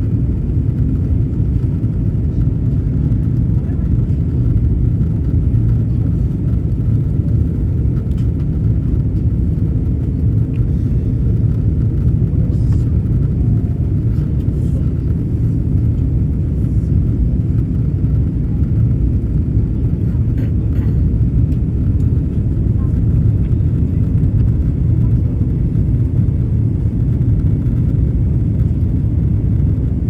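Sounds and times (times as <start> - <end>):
low rumble of jet engines: 0.0 - 30.0.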